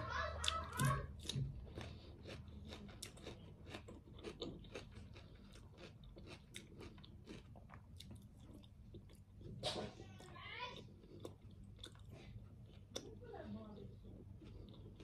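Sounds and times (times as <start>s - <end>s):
person chewing crunchy food: 0.2s - 13.2s, 13.8s - 15.0s.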